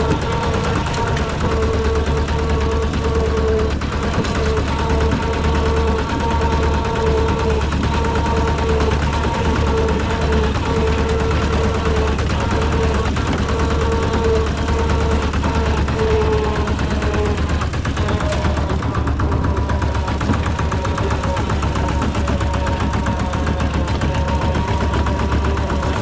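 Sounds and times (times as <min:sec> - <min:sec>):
diesel engine chugging: 0:00.0 - 0:26.0
wavering whine: 0:00.0 - 0:26.0.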